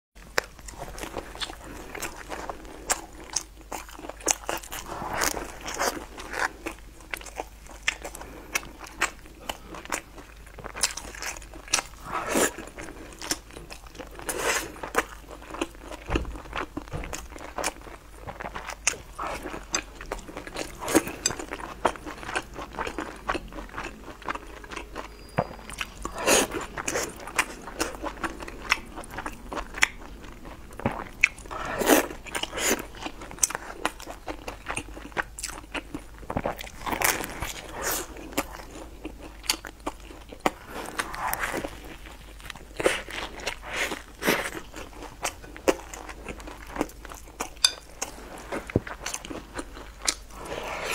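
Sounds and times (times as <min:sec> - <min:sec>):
person chewing and biting: 0:00.3 - 0:50.9.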